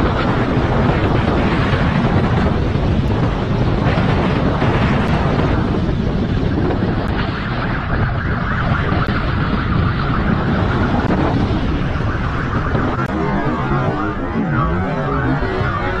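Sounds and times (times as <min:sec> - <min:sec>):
motorcycle engine at speed: 0:00.0 - 0:16.0
wind buffeting on microphone: 0:00.0 - 0:16.0.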